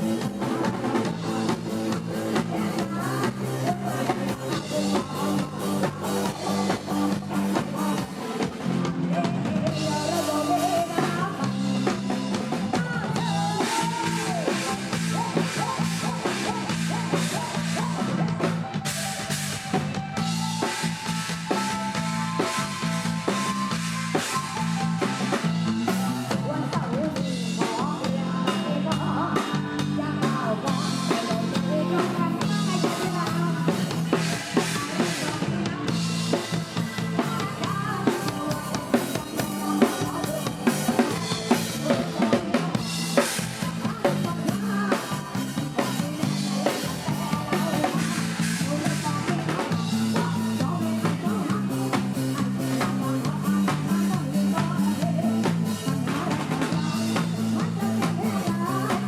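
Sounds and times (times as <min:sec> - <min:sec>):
drum kit playing: 0:00.0 - 0:59.0
live band music: 0:00.0 - 0:59.0.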